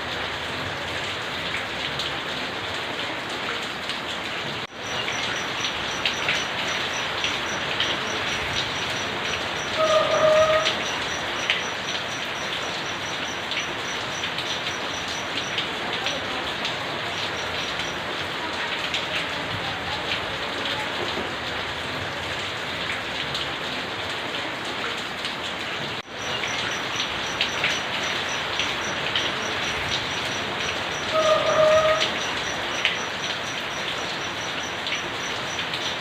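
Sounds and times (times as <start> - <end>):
rain pattering on surfaces: 0.0 - 36.0.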